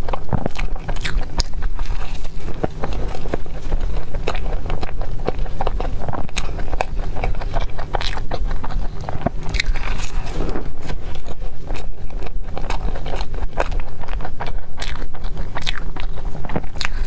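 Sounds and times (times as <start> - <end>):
biting into a pastry: 0.0 - 17.0
person chewing with wet mouth clicks: 0.0 - 17.0.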